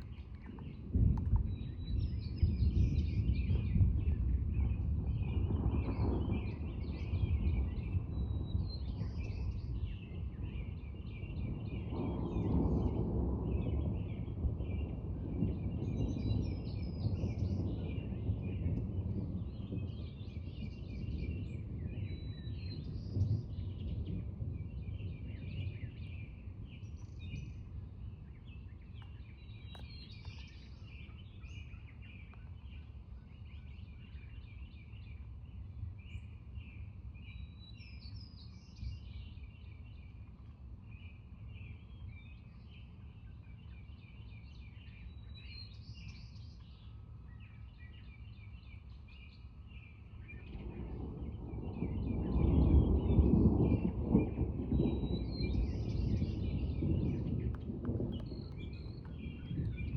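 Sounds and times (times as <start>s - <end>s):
rolling thunder rumbling: 0.0s - 59.9s
songbirds chirping: 0.0s - 59.9s.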